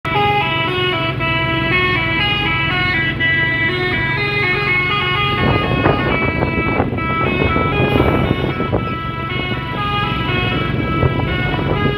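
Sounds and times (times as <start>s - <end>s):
low engine hum: 0.1s - 11.9s
truck air horn melody: 0.1s - 11.9s.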